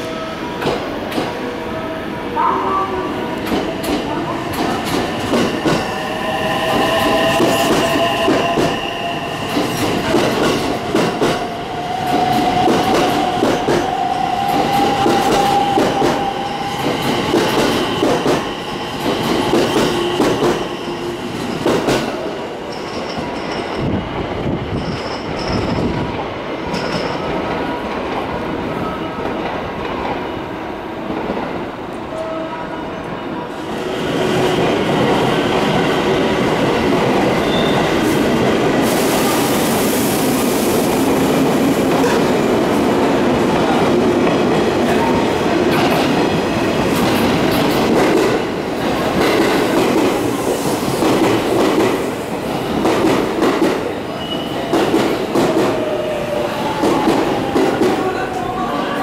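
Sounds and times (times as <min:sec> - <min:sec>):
train wheels rumbling on rails: 0:03.1 - 0:30.4, 0:33.5 - 0:59.0.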